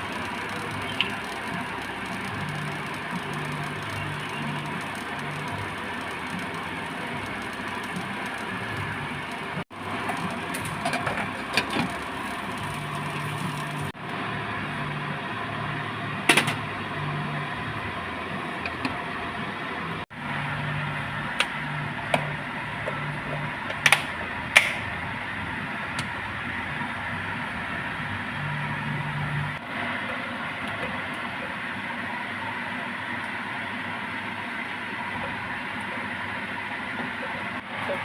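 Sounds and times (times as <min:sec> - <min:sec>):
kitchen cooking noise: 0:00.0 - 0:38.0.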